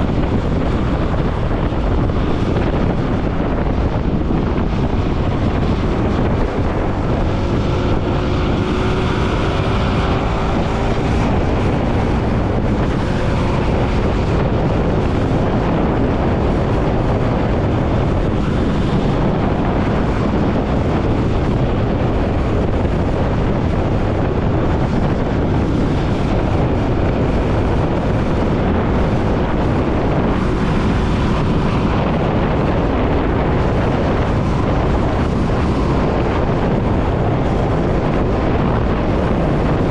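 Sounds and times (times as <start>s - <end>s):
motorcycle engine: 0.0s - 39.9s
traffic noise: 0.0s - 39.9s
wind rush on microphone: 0.0s - 39.9s.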